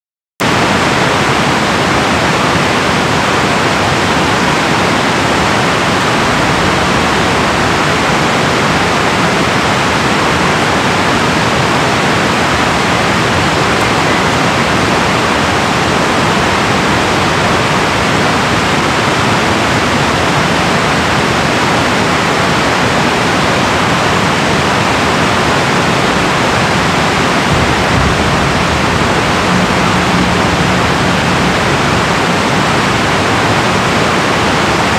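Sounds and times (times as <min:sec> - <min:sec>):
water rushing through dam: 0:00.4 - 0:34.9.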